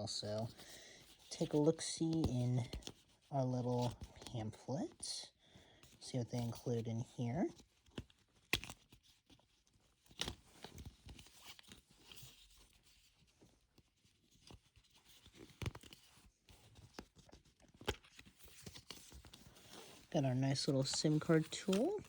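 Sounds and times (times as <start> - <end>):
paper rustling: 0.1 - 4.6, 5.8 - 22.0.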